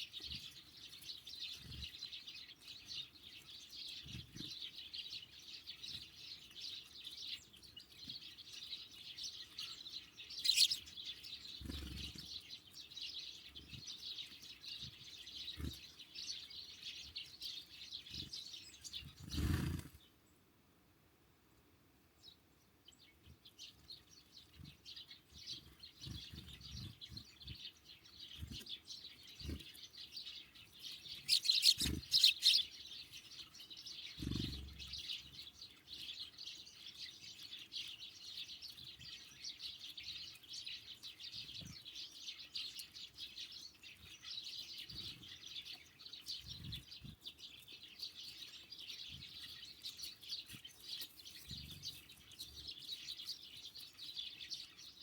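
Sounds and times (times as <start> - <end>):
small songbirds chirping: 0.0 - 20.6, 21.4 - 55.0.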